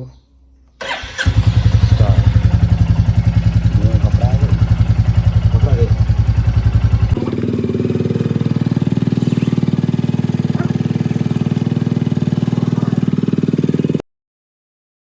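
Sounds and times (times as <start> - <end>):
motorcycle engine idling: 0.8 - 14.0.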